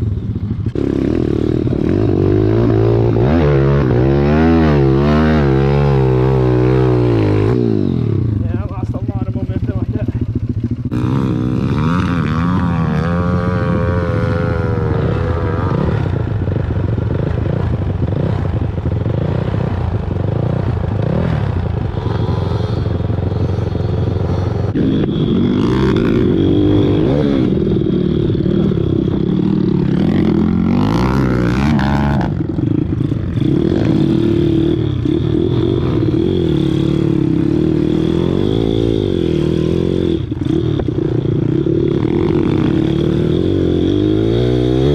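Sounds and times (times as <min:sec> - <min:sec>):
motorbike engine revving: 0:00.0 - 0:44.9.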